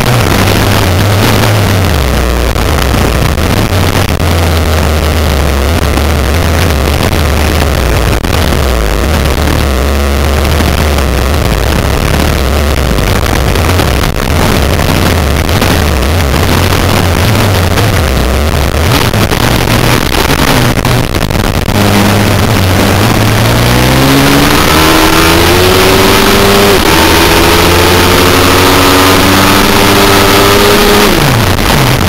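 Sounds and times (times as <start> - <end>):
motorbike engine revving: 0.0 - 32.0
wind rushing over microphone: 0.0 - 32.0.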